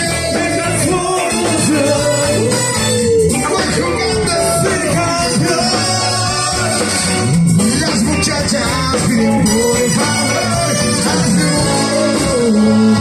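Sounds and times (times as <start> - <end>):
person singing: 0.0 - 7.0, 7.6 - 13.0
bass guitar: 0.0 - 13.0
electric guitar: 0.0 - 13.0
live band playing latin music: 0.0 - 13.0.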